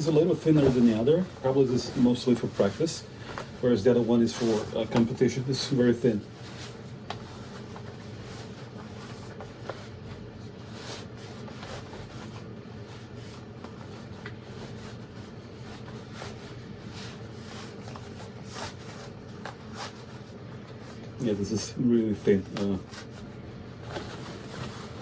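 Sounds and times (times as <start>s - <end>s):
fabric rustling: 0.0s - 21.2s, 22.2s - 25.0s
low steady hum: 0.0s - 25.0s.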